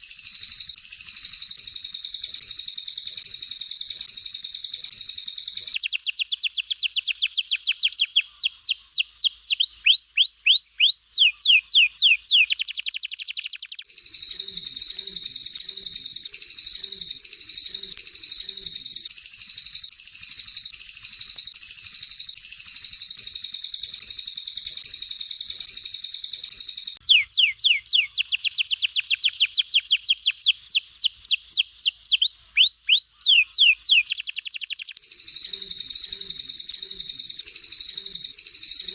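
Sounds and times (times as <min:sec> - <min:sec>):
high buzzing bird trill: 0:00.0 - 0:38.9.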